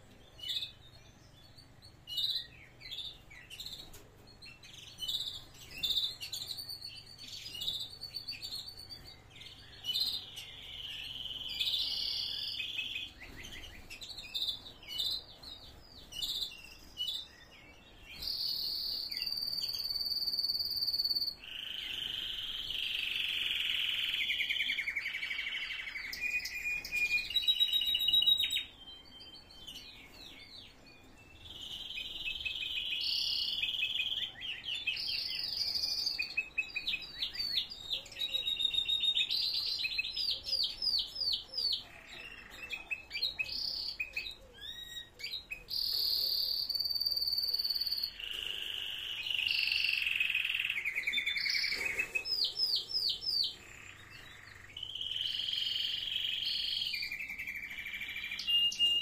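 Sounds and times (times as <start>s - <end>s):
canaries singing: 0.0s - 59.0s.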